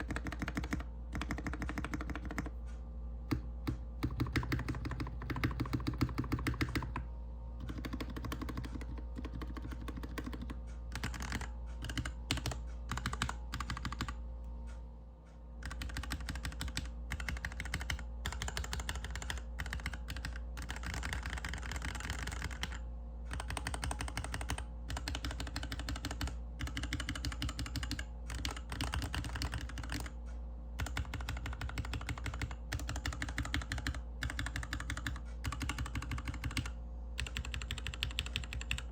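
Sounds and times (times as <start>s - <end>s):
mechanical keyboard typing: 0.0s - 2.6s, 3.3s - 7.0s, 7.6s - 14.2s, 15.6s - 30.2s, 30.8s - 38.9s.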